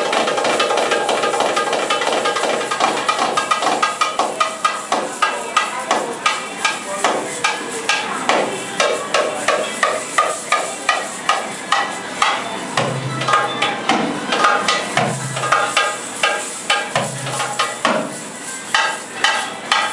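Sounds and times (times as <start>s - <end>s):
darbuka drumming: 0.0s - 19.9s.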